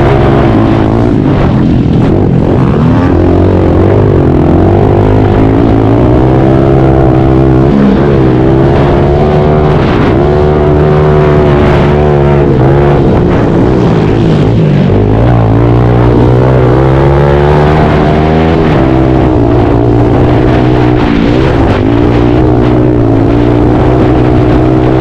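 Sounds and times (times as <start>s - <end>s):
pit bike engine revving: 0.0s - 25.0s.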